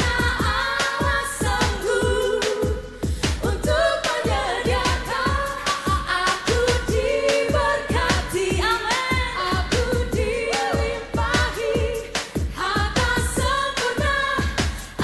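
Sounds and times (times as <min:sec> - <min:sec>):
person singing worship song: 0:00.0 - 0:15.0.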